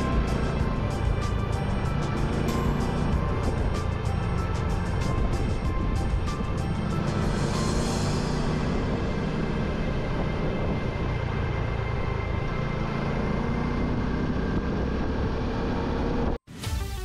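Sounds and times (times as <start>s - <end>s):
motorcycle engine: 0.0s - 16.4s.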